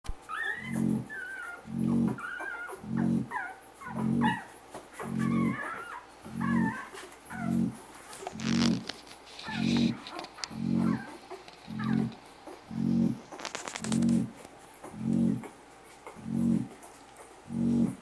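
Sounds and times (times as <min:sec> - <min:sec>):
pet snoring: 0:00.4 - 0:16.8, 0:17.4 - 0:18.0.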